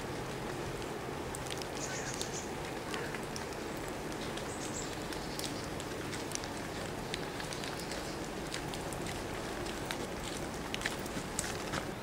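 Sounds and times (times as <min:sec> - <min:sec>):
light rain drops ticking: 0:00.0 - 0:12.0.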